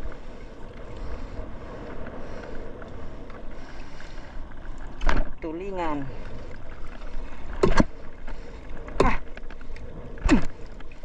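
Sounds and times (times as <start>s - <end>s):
water washing against hull: 0.0s - 11.0s.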